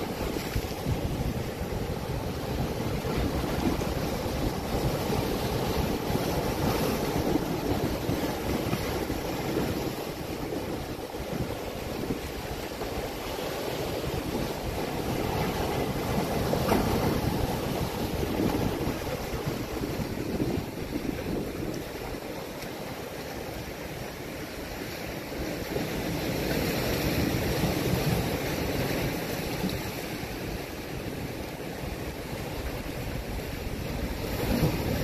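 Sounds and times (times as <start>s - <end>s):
surf breaking over rocks: 0.0s - 35.0s.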